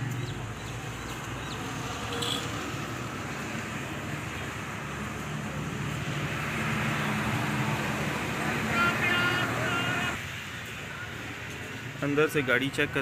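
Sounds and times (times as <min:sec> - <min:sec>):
traffic engine hum: 0:00.0 - 0:13.0.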